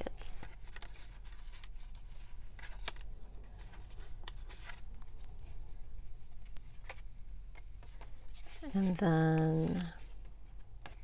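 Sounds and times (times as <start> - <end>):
paper pages rustling: 0.3 - 5.6, 6.3 - 11.0.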